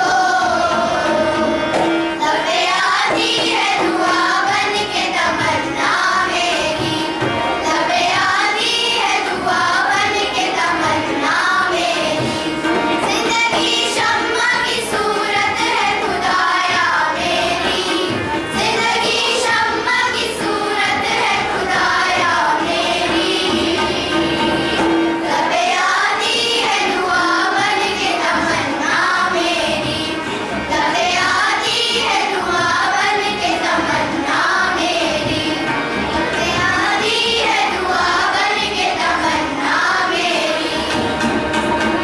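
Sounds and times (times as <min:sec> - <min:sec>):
girls choir singing: 0:00.0 - 0:42.0.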